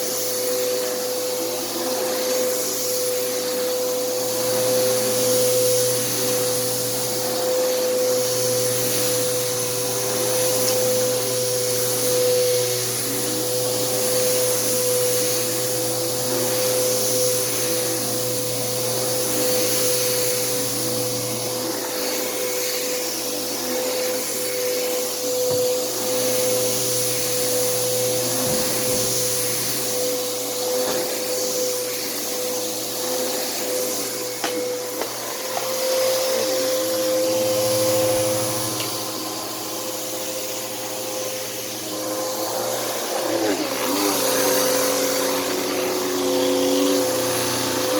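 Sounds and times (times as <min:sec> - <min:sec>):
vacuum cleaner running on carpet: 0:00.0 - 0:47.9.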